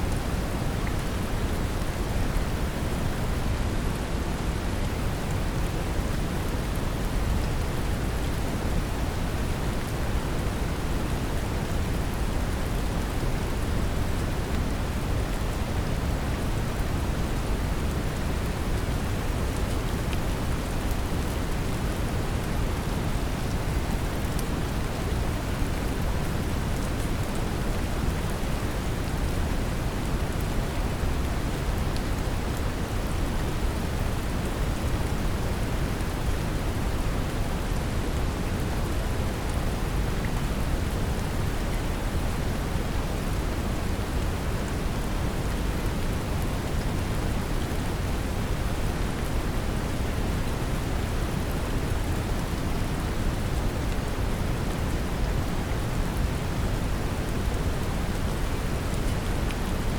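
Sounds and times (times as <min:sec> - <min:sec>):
brown noise hiss: 0:00.0 - 0:59.9
gentle rain: 0:00.0 - 0:59.9.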